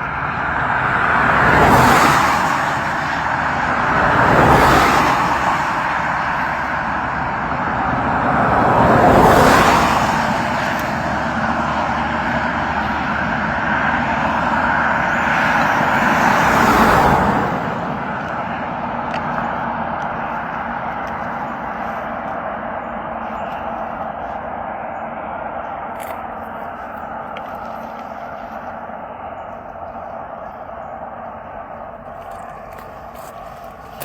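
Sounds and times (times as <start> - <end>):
steady traffic rushing: 0.0 - 34.0
vehicles passing by: 0.0 - 34.0.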